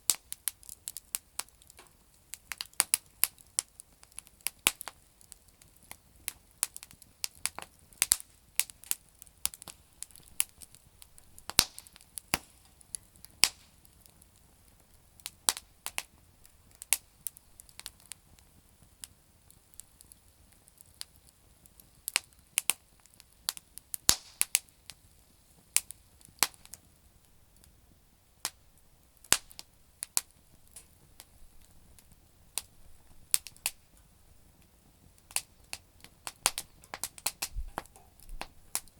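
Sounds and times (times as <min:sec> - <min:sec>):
campfire crackling: 0:00.0 - 0:38.9
faint low hiss: 0:00.0 - 0:38.9.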